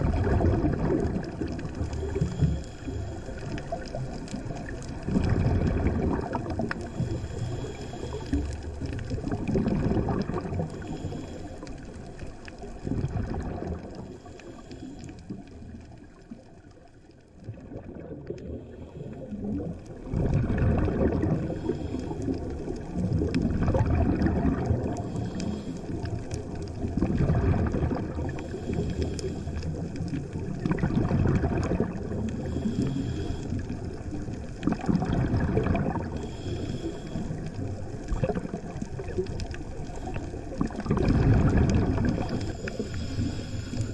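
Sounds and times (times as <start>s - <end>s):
underwater regulator bubbles gurgling: 0.0s - 43.9s.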